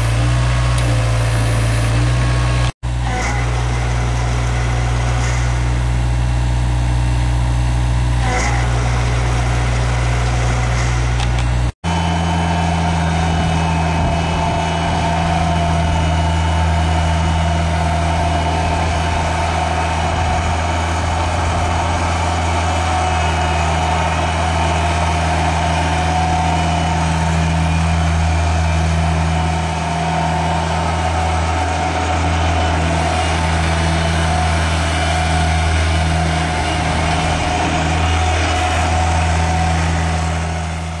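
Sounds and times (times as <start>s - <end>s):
diesel mower engine humming: 0.0s - 41.0s.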